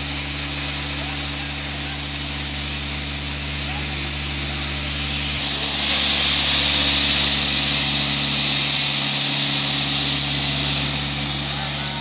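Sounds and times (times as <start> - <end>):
diesel tractor engine humming: 0.0 - 12.0
heater hissing: 0.0 - 12.0.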